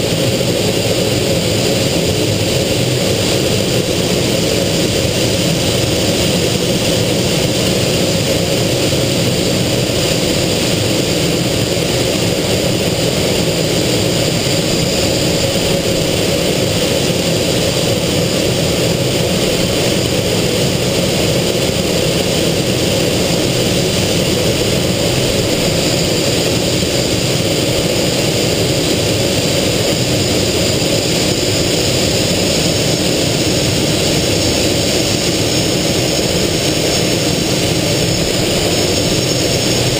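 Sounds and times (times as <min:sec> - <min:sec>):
airflow noise: 0:00.0 - 0:39.9
jet engine drone with high whine: 0:00.0 - 0:39.9.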